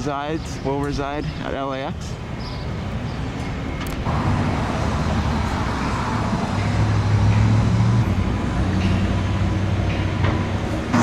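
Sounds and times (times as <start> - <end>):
passing cars: 2.0 - 11.0
vehicle engine hum: 2.2 - 11.0.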